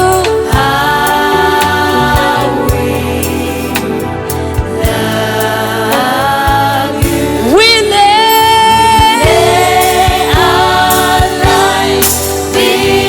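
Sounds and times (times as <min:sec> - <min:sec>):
band accompaniment: 0:00.0 - 0:13.0
person singing with vibrato: 0:00.0 - 0:13.0.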